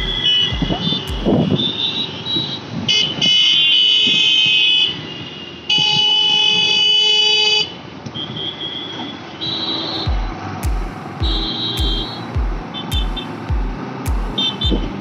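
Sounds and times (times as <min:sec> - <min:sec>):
vehicle horn blasts: 0:00.0 - 0:07.6, 0:08.2 - 0:10.2, 0:11.1 - 0:13.4, 0:14.3 - 0:15.0
road traffic noise: 0:00.0 - 0:15.0.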